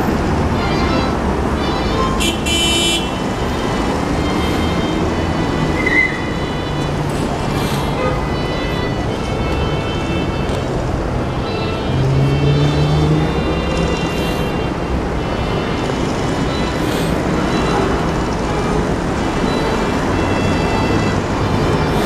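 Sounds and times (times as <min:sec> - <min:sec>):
heavy vehicle engine: 0:00.0 - 0:22.0
road traffic noise: 0:00.0 - 0:22.0.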